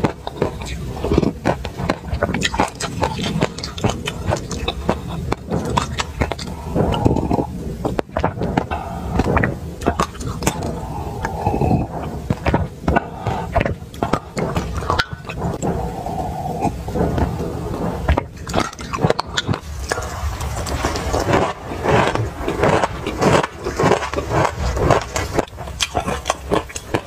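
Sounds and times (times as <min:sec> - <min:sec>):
chewing and crunching seeds: 0:00.0 - 0:27.0.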